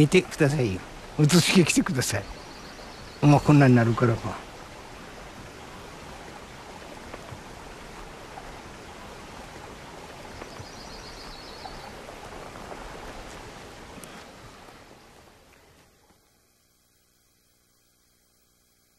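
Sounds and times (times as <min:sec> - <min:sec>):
wet forest ambience hiss: 0:00.0 - 0:18.9.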